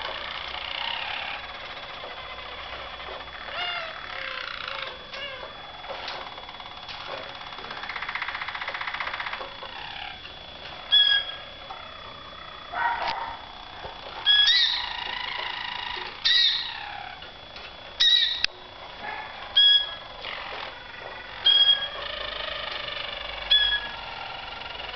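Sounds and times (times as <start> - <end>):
canaries singing: 0.0 - 17.3, 18.0 - 24.9.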